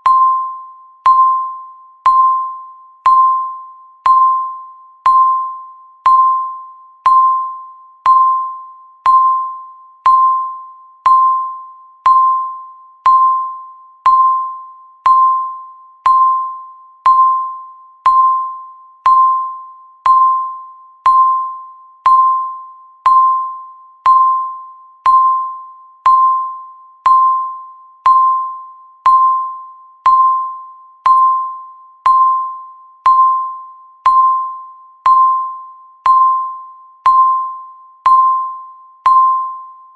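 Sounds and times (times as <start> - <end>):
electronic timer ding: 0.0 - 39.9.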